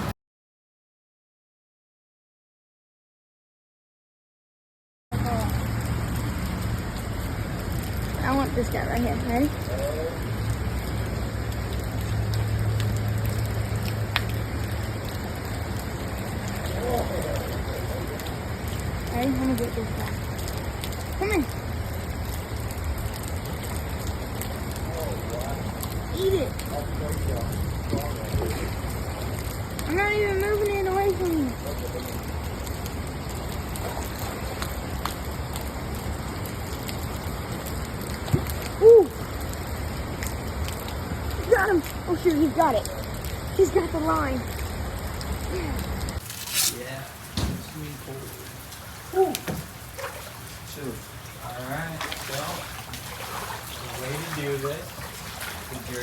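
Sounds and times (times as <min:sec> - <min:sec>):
rain falling: 0:05.1 - 0:56.0
raindrop ticks: 0:05.1 - 0:56.0.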